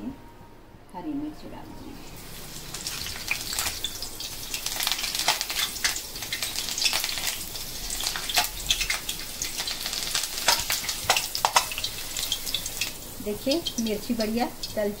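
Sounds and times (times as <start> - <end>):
chillies sizzling in oil: 2.0 - 15.0.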